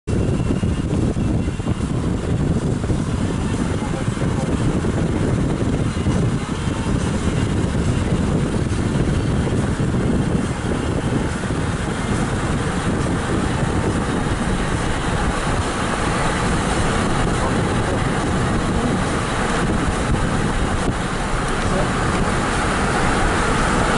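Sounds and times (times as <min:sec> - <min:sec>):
car road noise rumble: 0:00.0 - 0:23.9.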